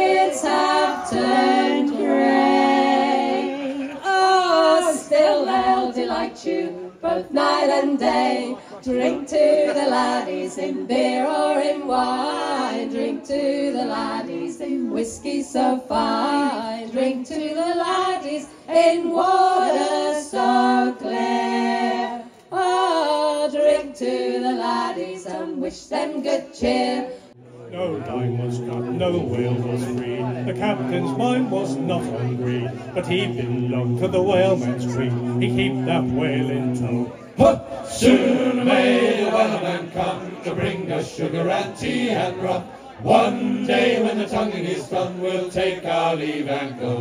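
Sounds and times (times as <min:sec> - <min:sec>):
group singing a sea shanty: 0:00.0 - 0:47.0.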